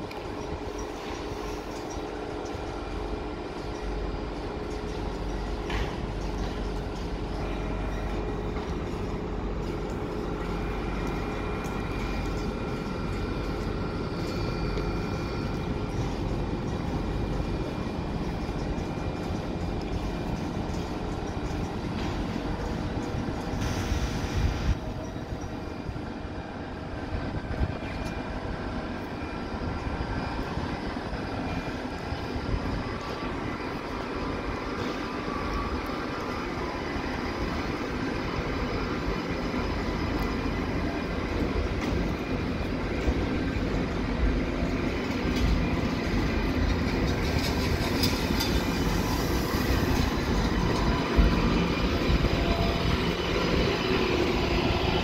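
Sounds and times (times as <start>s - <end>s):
train equipment and fans humming: 0.0s - 55.0s.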